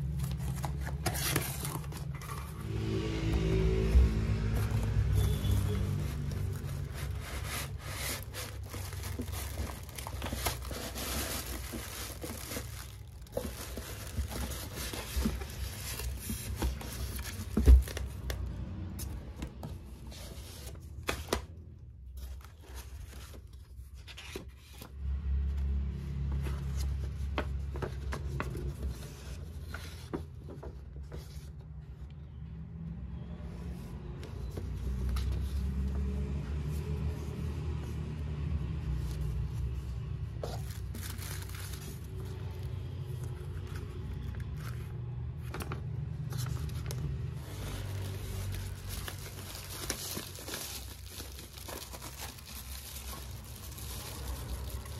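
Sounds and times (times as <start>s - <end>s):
cardboard and plastic rustling: 0.0s - 54.9s
motorbike and car traffic: 0.0s - 54.9s.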